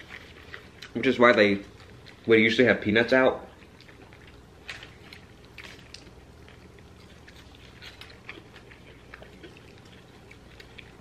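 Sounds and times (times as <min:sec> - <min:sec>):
people chewing: 0:00.0 - 0:02.8, 0:03.4 - 0:11.0.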